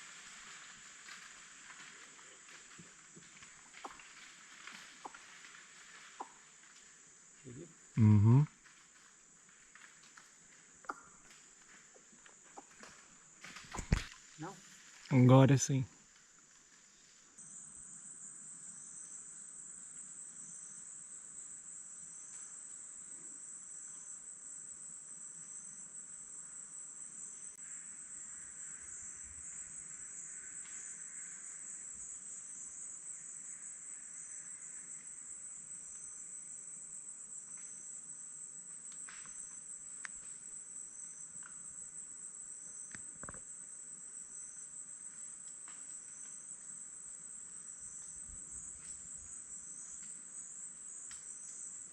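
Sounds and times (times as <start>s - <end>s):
insects chorus: 0.0s - 51.9s
pulsing insect call: 0.0s - 51.9s.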